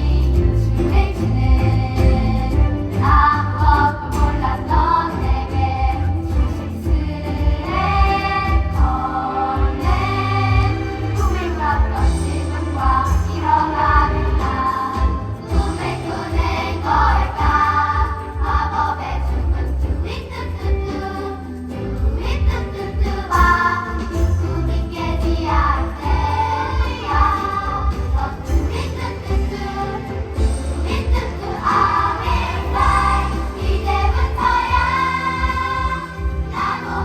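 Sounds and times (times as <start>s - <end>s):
group of voices singing: 0.0s - 37.0s.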